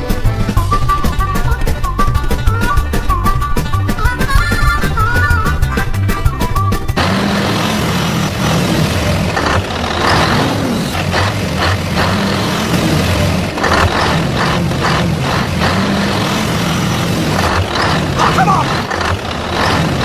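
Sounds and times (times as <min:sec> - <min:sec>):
heavy truck engine running: 0:00.0 - 0:20.0.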